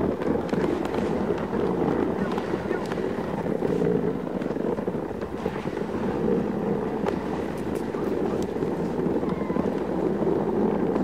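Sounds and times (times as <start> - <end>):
sled rushing over snow: 0.0 - 11.0.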